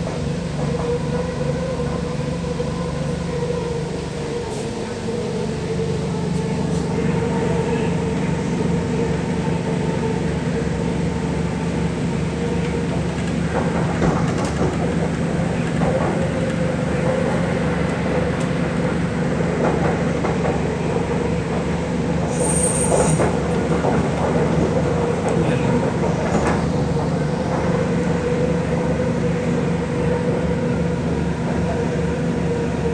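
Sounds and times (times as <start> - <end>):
train motor hum: 0.0 - 32.9.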